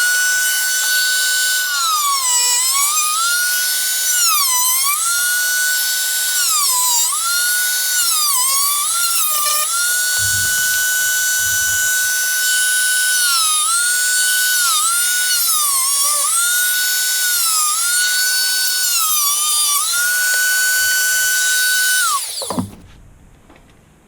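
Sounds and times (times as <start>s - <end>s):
rotary cutting tool whining: 0.0s - 22.9s.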